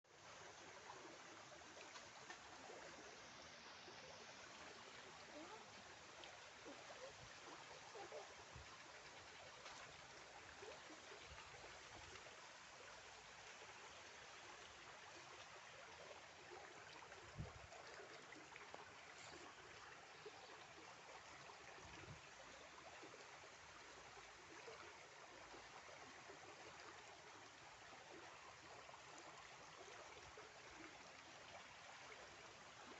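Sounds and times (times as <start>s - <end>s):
flowing stream water: 0.0s - 32.9s.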